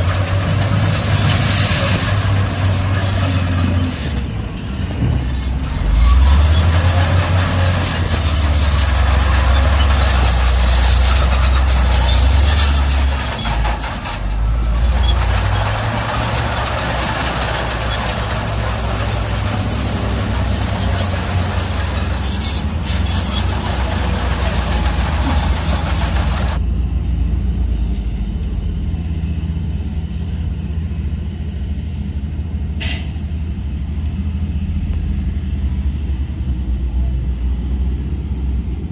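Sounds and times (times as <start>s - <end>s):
heavy diesel engine drone: 0.0s - 38.9s.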